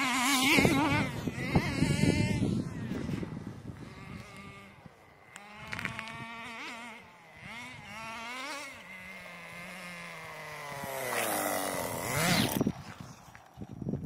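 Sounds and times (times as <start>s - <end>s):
small model car engine revving: 0.0s - 13.1s.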